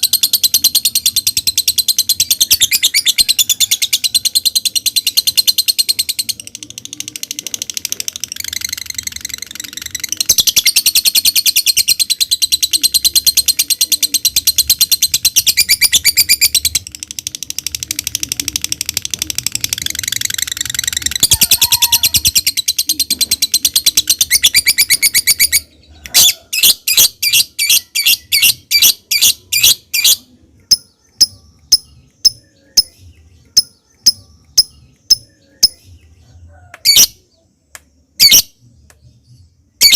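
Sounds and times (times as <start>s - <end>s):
lovebird chattering trill: 0.0s - 36.0s, 38.2s - 38.5s.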